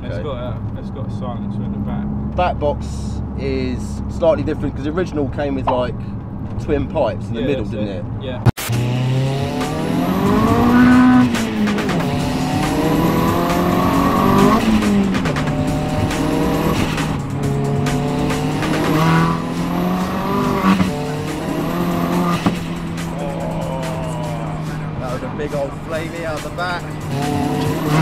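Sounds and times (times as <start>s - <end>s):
car engine accelerating: 0.0s - 28.0s
high turbo whine: 0.0s - 28.0s.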